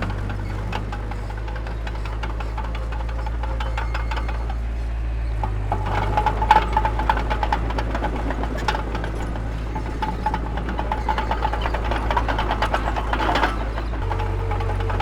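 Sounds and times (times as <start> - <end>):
diesel machinery engine drone: 0.0 - 15.0
metallic clanks and rattles: 0.0 - 15.0.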